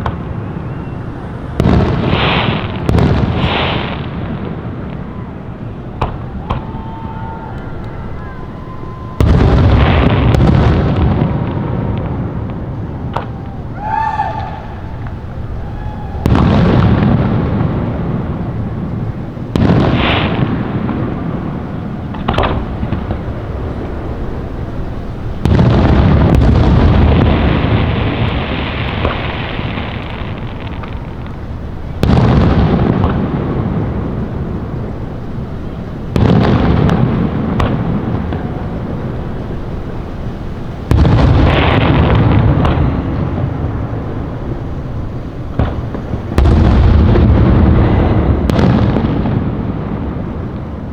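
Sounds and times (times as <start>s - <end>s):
fireworks booming and crackling: 0.0s - 50.9s.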